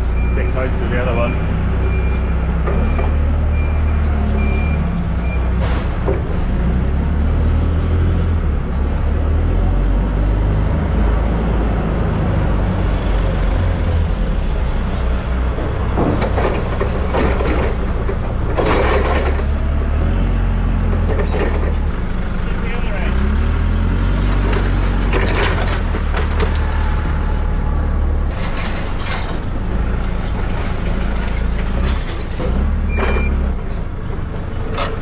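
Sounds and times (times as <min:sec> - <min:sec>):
diesel loader engine running: 0:00.0 - 0:35.0.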